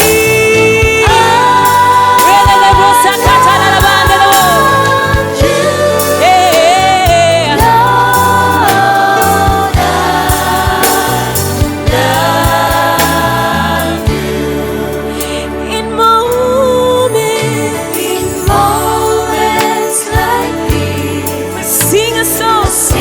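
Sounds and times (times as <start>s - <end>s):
band with bass and drums: 0.0s - 15.6s, 16.2s - 23.0s.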